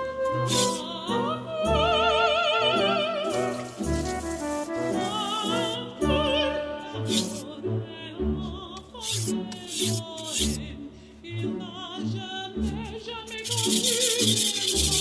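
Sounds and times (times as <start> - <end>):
operatic singing with orchestra: 0.0 - 15.0.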